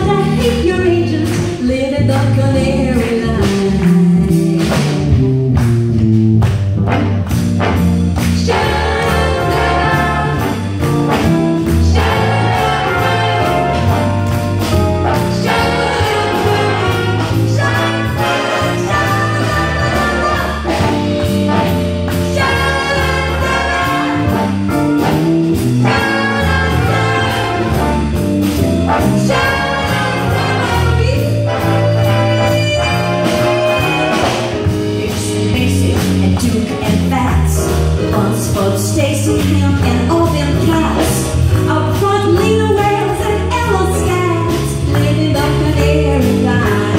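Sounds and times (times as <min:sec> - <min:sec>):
big band playing swing jazz: 0:00.0 - 0:46.9.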